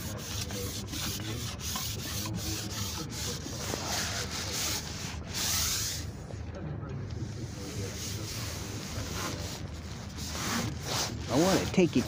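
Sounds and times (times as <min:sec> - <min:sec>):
rubbing rasping noise: 0:00.0 - 0:06.1, 0:07.6 - 0:12.0.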